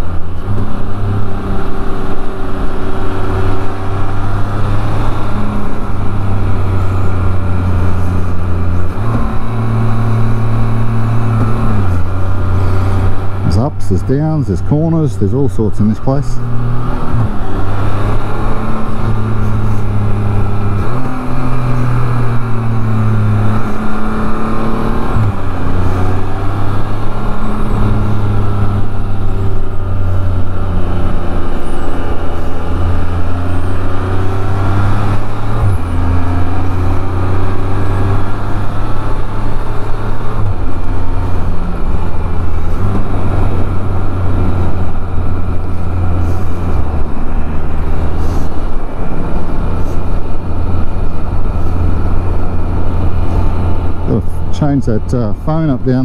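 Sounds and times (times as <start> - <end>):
motorcycle engine changing gears: 0.0 - 56.0.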